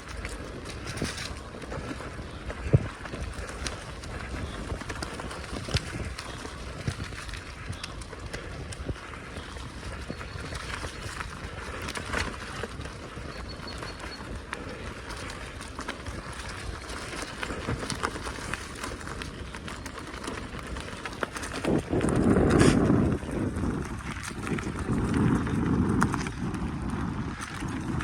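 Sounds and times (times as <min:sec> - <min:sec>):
bicycle clicks and rattles: 0:00.0 - 0:28.0
bicycle tyre noise: 0:00.0 - 0:28.0.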